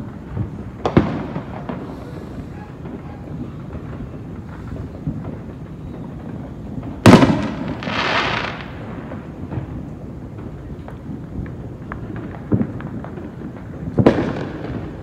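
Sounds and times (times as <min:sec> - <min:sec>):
distant firework pops: 0:00.0 - 0:15.0
firework bang: 0:00.0 - 0:15.0
firework hiss: 0:00.0 - 0:15.0.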